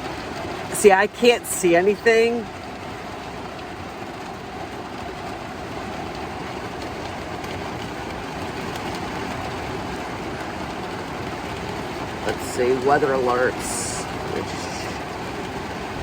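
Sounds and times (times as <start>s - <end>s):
heavy rain drumming on metal roof: 0.0s - 16.0s.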